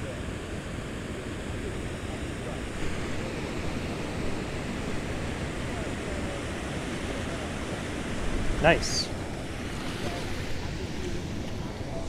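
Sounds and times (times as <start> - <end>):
river water rushing over spillway: 0.0 - 12.0.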